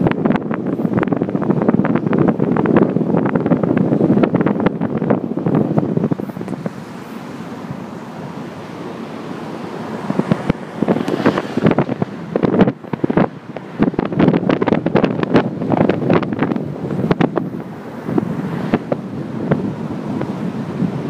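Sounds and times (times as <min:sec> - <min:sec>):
moving vehicle rumble: 0:00.0 - 0:21.0
wind buffeting microphone: 0:00.0 - 0:21.0.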